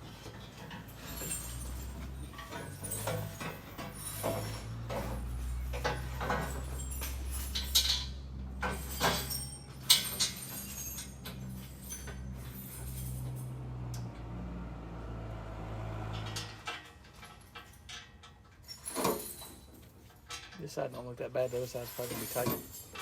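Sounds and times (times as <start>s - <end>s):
metal tools clinking: 0.2s - 14.1s, 16.2s - 23.0s.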